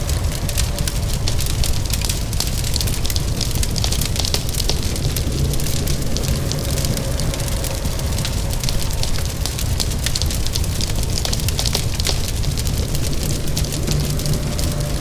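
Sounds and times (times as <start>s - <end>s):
low rumble: 0.0s - 15.0s
rain hiss: 0.0s - 15.0s
wood fire crackling: 0.0s - 15.0s.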